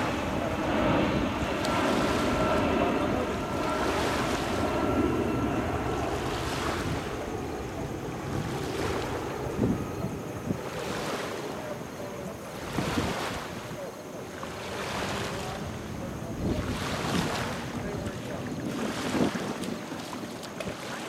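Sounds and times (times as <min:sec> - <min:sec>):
shallow water lapping: 0:00.0 - 0:21.0
wind rumbling on microphone: 0:00.0 - 0:21.0.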